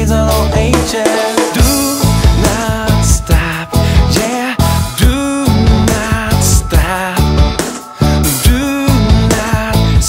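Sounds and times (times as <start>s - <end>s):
song with bass and drum beat: 0.0s - 10.0s.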